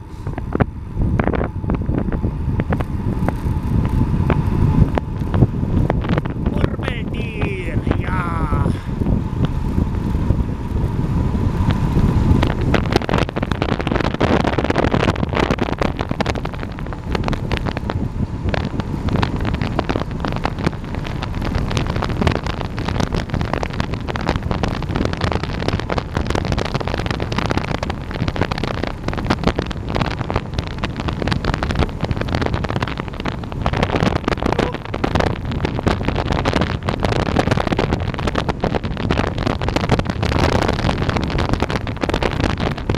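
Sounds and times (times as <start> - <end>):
bike rattling on road: 0.0 - 42.9
wind buffeting microphone: 0.0 - 42.9.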